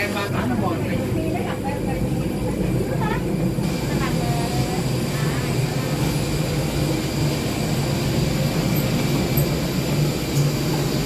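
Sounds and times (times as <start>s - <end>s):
airliner low rumble and hum: 0.0s - 11.0s.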